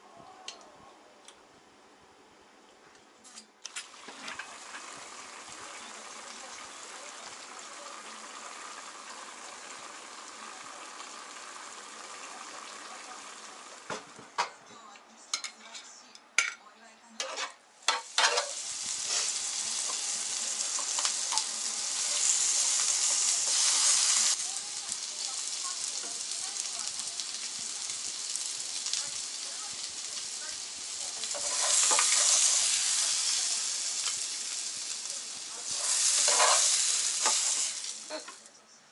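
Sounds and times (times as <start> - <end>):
food sizzling in a frying pan: 3.8 - 14.2, 17.8 - 38.5.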